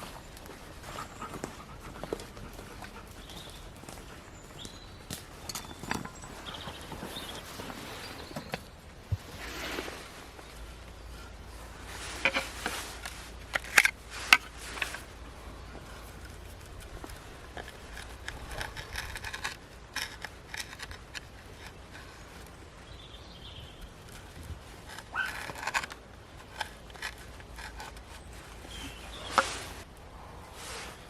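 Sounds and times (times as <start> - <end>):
dry twigs and leaves rustling: 0.0 - 31.0.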